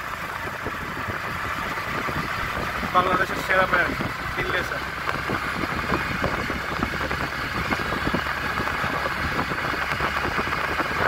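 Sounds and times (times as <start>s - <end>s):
auto-rickshaw engine running: 0.0s - 11.0s
road noise: 0.0s - 11.0s.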